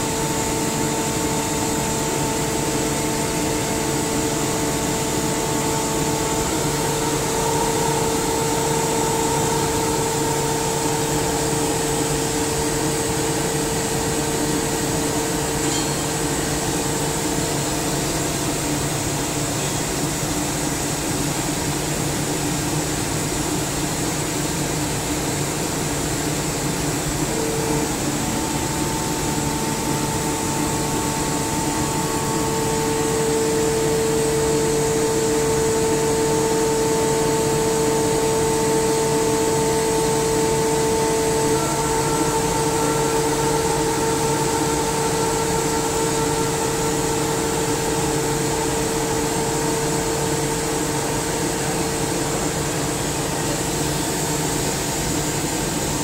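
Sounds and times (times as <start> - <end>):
air compressor hum and hiss: 0.0 - 56.0.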